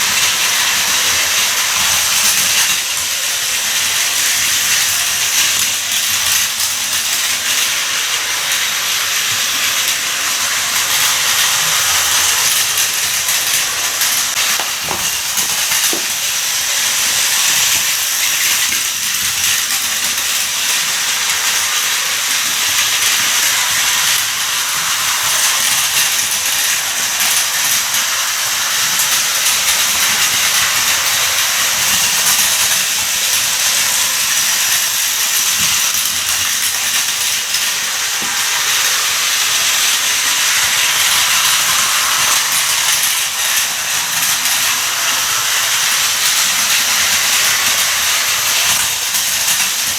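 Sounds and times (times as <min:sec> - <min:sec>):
toy train motor whirring: 0:00.0 - 0:49.9.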